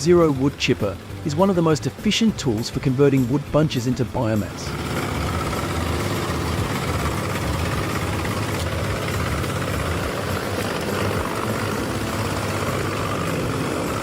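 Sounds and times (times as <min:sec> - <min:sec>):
wood chipper running: 0:00.0 - 0:14.0.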